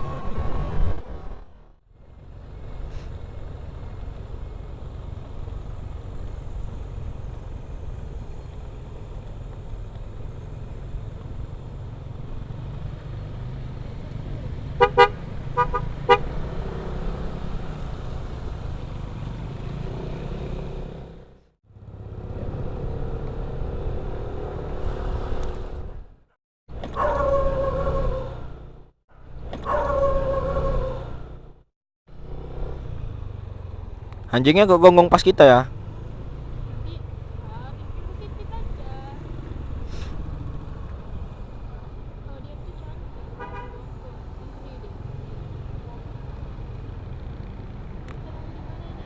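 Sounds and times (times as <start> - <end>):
motorcycle engine and road noise: 0.0 - 49.0.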